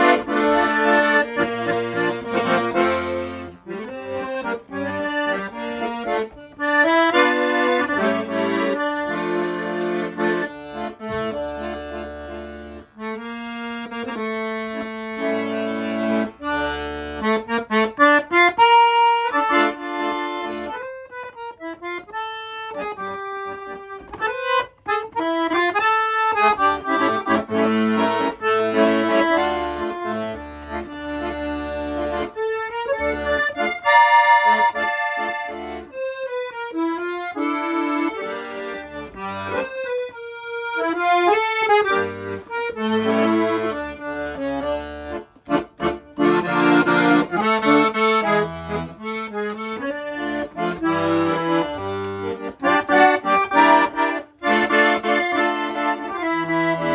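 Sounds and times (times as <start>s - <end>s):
accordion melody: 0.0s - 56.9s.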